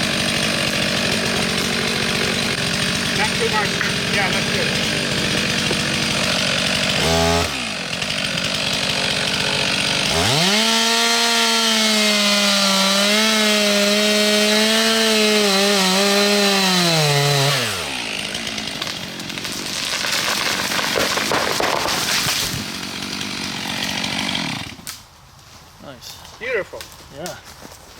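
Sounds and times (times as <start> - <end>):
chainsaw revving: 0.0 - 24.9
chainsaw cutting into tree: 0.0 - 25.0.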